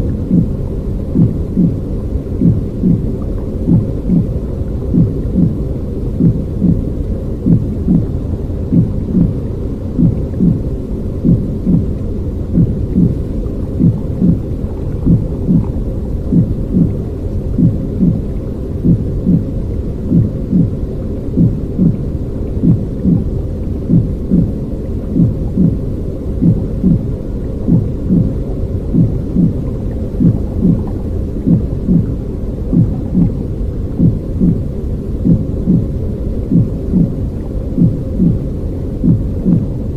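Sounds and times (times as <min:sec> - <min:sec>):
heartbeat-like thump: 0:00.0 - 0:01.8, 0:02.4 - 0:05.6, 0:06.2 - 0:20.8, 0:21.4 - 0:24.6, 0:25.2 - 0:25.8, 0:26.4 - 0:33.4, 0:34.0 - 0:37.2, 0:37.8 - 0:39.8
deep steady rushing noise: 0:00.0 - 0:39.9.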